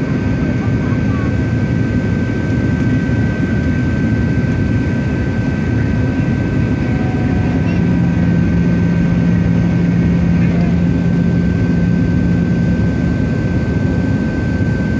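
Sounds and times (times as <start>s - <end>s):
airflow and jet engines roaring: 0.0s - 14.9s
low droning hum: 0.0s - 14.9s.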